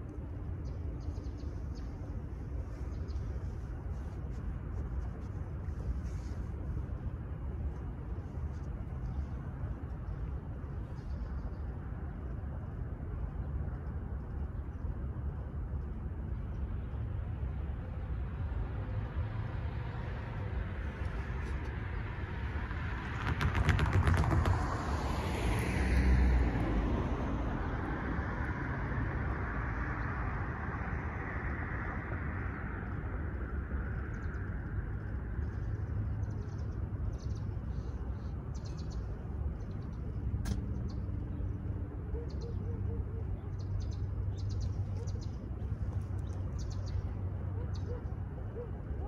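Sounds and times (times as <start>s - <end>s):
distant traffic rumble: 0.0s - 49.0s.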